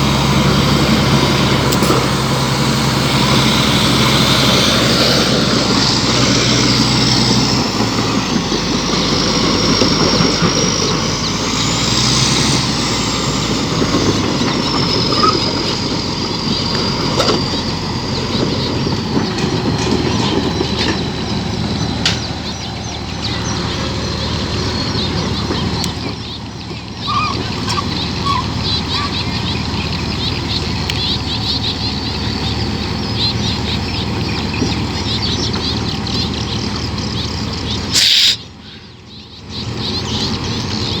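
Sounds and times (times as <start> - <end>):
high mechanical whine: 0.0 - 38.9
heavy diesel machinery running: 0.0 - 41.0.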